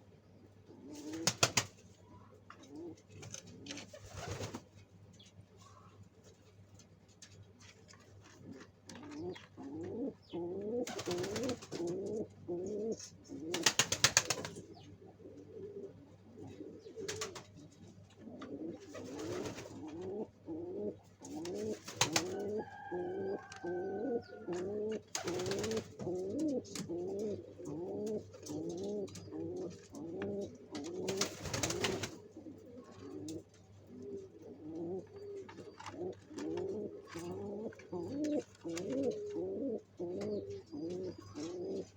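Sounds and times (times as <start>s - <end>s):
pigeons cooing: 0.6s - 1.7s, 2.6s - 4.6s, 8.3s - 41.9s.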